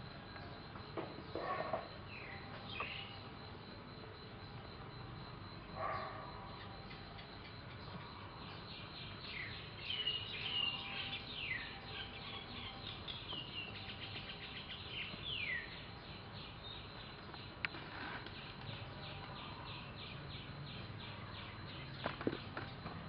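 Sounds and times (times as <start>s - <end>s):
birds chirping: 0.4s - 3.4s, 5.4s - 23.0s.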